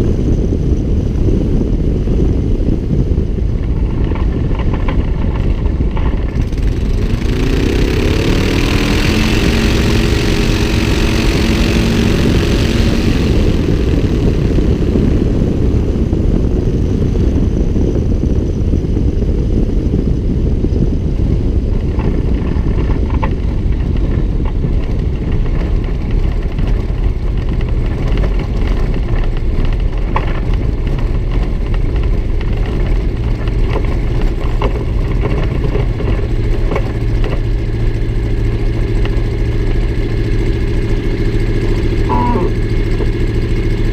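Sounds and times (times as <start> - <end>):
propeller airplane engine: 0.0 - 43.9
wind rumble on microphone: 0.0 - 43.9.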